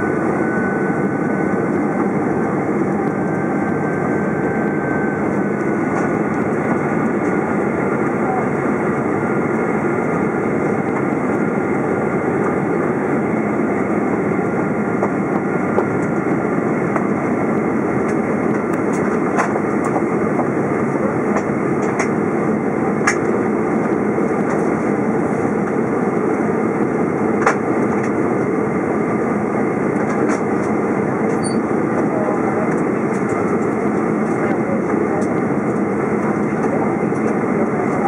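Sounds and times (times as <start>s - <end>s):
aircraft cabin engine roar: 0.0s - 38.0s.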